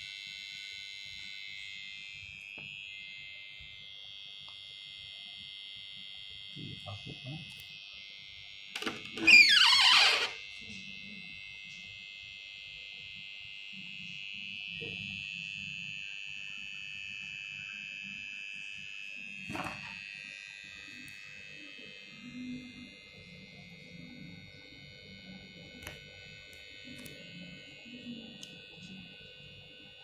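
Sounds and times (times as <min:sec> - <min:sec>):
inverter high-pitched whine: 0:00.0 - 0:30.0.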